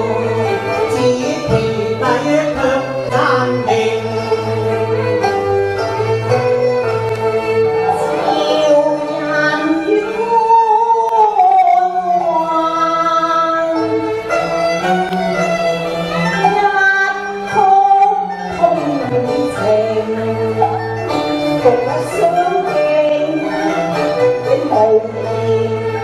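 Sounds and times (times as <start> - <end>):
opera-style singing: 0.0 - 5.5, 7.6 - 26.0
bowed strings: 0.0 - 26.0.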